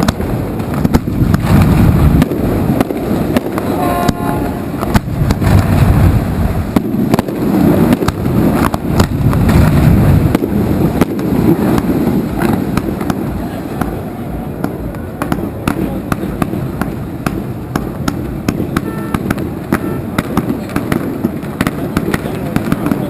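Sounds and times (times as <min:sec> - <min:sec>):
fireworks booming and banging: 0:00.0 - 0:23.0.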